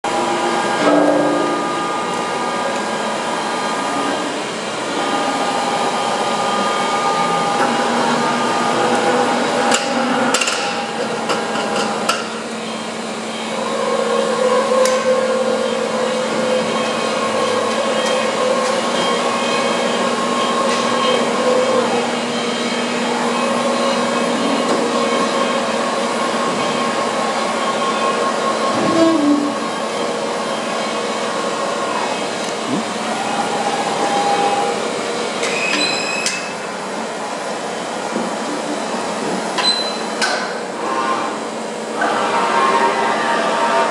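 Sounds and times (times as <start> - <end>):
machine drive whine: 0.1 - 43.9.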